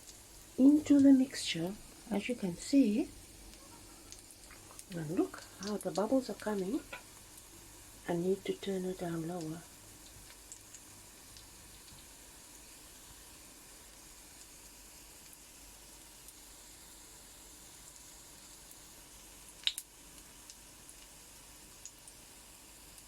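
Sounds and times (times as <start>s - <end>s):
batter sizzling in a frying pan: 0.0s - 23.0s.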